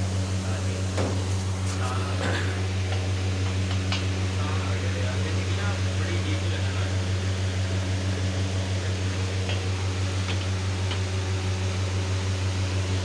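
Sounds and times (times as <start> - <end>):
electric fan motor humming: 0.0 - 13.0.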